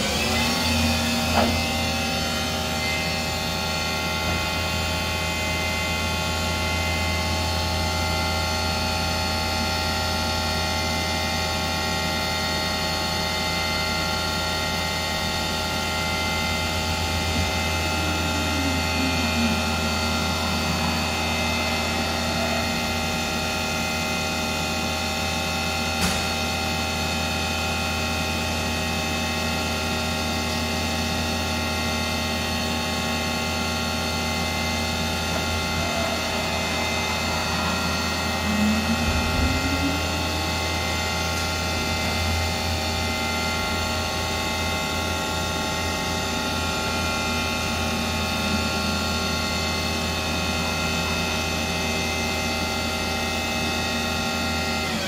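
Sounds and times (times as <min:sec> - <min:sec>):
machine low hum: 0:00.0 - 0:55.0
machine whining tones: 0:00.0 - 0:55.0.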